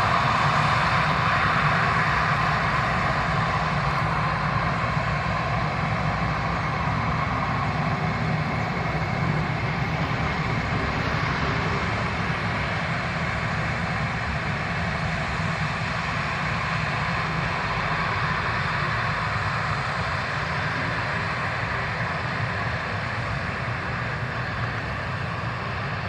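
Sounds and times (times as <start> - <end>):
jet engines running at low power: 0.0 - 26.0.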